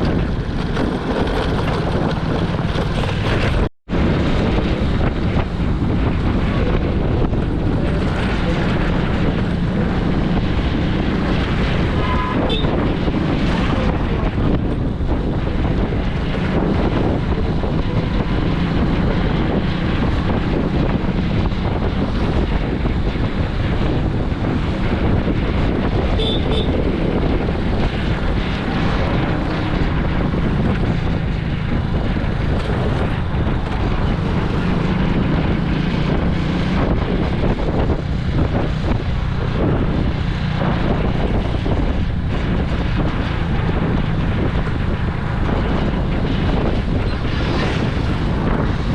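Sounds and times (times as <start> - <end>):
vehicle engine and tyres drone: 0.0 - 48.9
wind buffeting microphone: 0.0 - 48.9.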